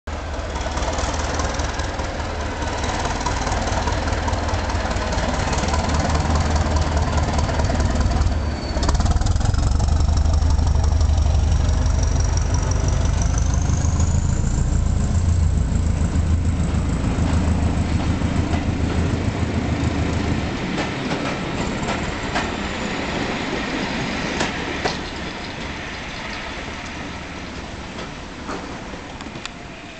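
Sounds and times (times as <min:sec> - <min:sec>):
diesel train engine rumble: 0:00.1 - 0:29.9.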